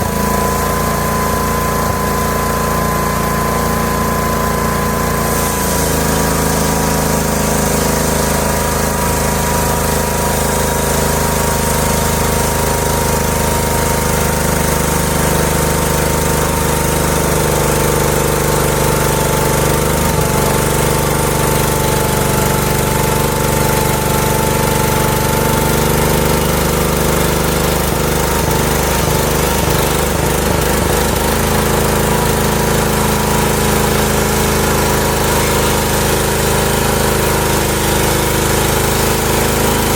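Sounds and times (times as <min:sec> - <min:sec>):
saw blade whine cutting log: 0:00.0 - 0:39.9
small engine drone: 0:00.0 - 0:39.9.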